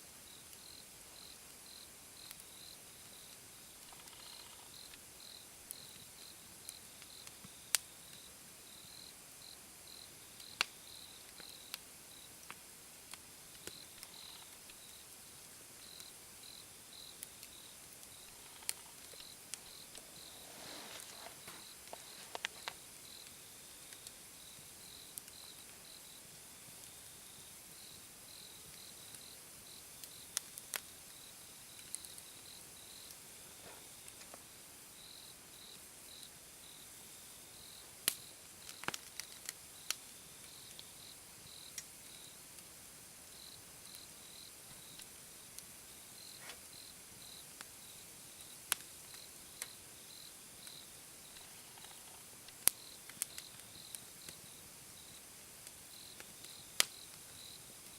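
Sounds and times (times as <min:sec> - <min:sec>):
insects chirping: 0:00.3 - 0:12.6, 0:13.5 - 0:34.2, 0:35.0 - 0:42.4, 0:43.3 - 0:55.3, 0:55.9 - 0:57.9
campfire crackling and popping: 0:00.3 - 0:34.9, 0:37.0 - 0:57.9.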